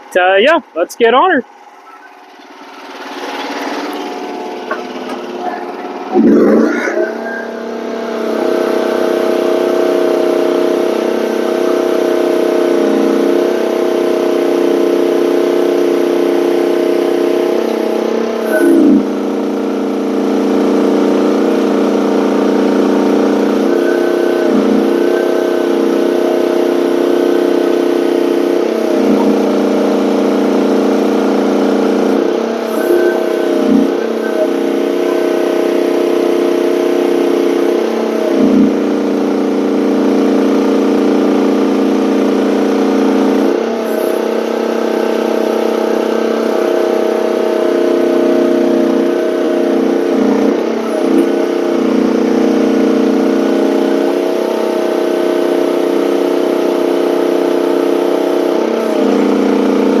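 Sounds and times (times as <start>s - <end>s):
excavator engine running: 0.0s - 60.0s.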